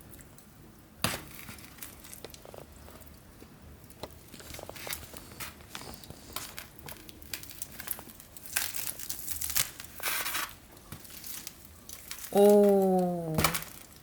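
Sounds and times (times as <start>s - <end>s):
wrapping crinkling and rustling: 1.1s - 3.3s, 3.9s - 14.0s.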